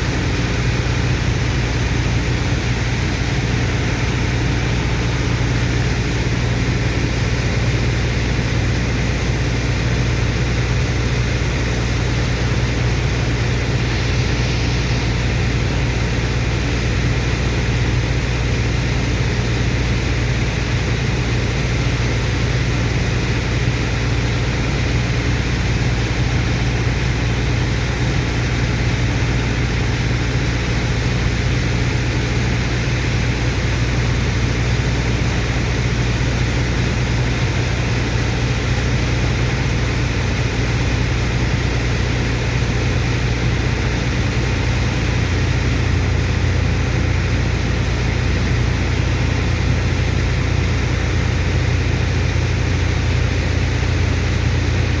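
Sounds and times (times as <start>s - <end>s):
dredger engine and water pump: 0.0s - 55.0s.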